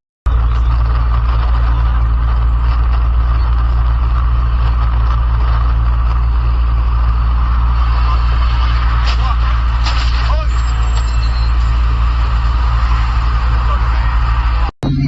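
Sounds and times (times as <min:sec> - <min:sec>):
vehicle engine droning: 0:00.2 - 0:15.0.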